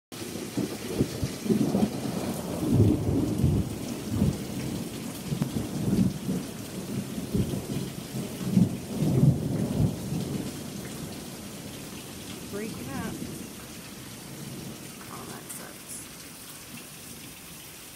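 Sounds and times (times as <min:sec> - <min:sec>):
rain falling: 0:00.1 - 0:17.9
rolling thunder: 0:00.2 - 0:15.0.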